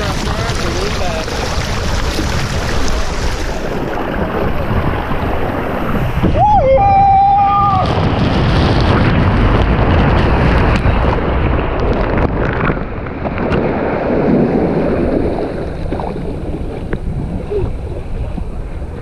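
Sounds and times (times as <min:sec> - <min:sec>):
water rushing down slide: 0:00.0 - 0:19.0
wind buffeting microphone: 0:00.0 - 0:19.0.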